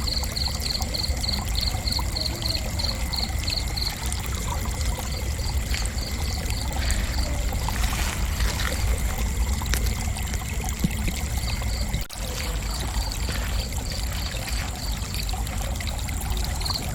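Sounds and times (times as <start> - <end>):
crickets chirping: 0.0 - 16.9
high insect trill: 0.0 - 16.9.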